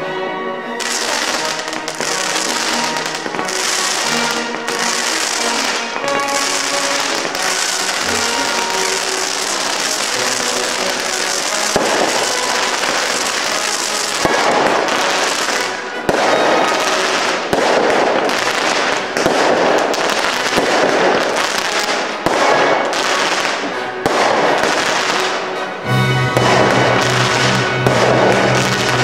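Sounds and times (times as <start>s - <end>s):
firework shells bursting: 0.8s - 25.4s, 26.3s - 29.0s
fireworks hissing: 0.8s - 25.4s, 26.4s - 29.0s.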